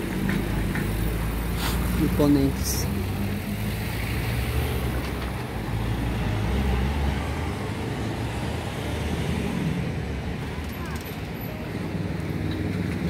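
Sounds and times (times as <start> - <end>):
street noise: 0.0 - 13.0
vehicles driving past: 0.0 - 13.0.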